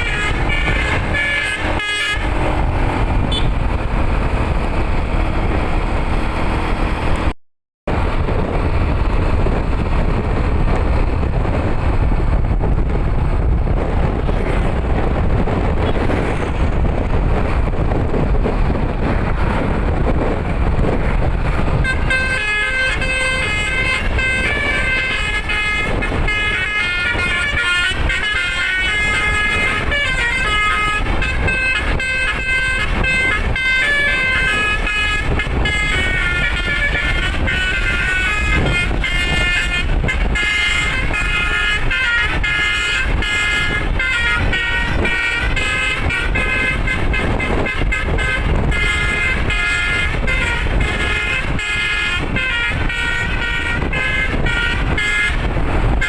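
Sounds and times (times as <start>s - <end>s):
musical bus horn tune: 0.0s - 4.5s, 14.3s - 56.0s
vehicle noise: 0.0s - 56.0s.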